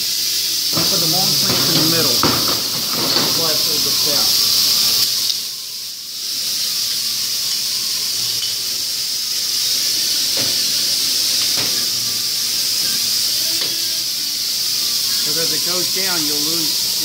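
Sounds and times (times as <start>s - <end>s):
high-pitched shop hiss: 0.0s - 17.0s.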